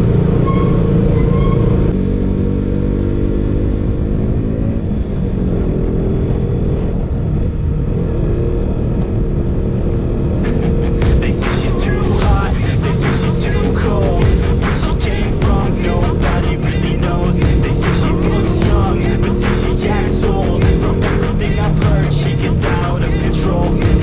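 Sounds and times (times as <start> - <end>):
motorcycle engine running: 1.9 - 24.0.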